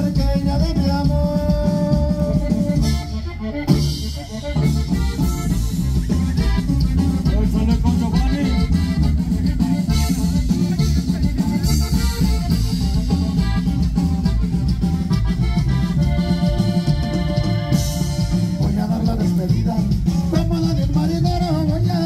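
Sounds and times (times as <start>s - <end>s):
accordion band music: 0.0s - 22.0s.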